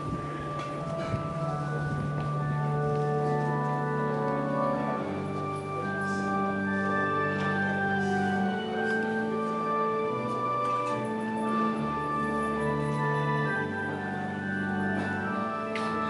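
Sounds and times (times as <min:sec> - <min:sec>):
organ playing held chords: 0:00.0 - 0:16.0.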